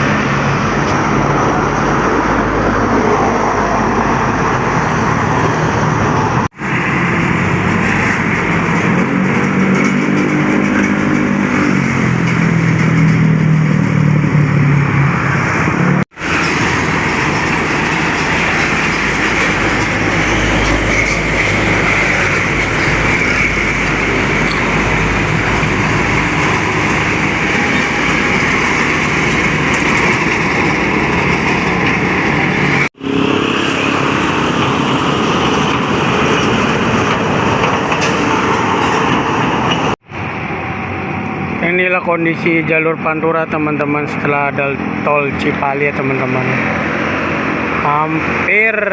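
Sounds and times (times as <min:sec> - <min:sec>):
highway traffic: 0:00.0 - 0:48.9
vehicle engine drone: 0:00.0 - 0:48.9.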